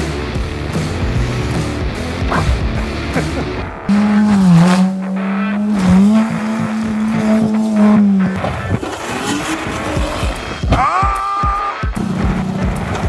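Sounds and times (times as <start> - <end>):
engine revving up: 0.0 - 10.7, 11.8 - 13.0
car engine at high revs: 0.0 - 10.8, 11.8 - 13.0.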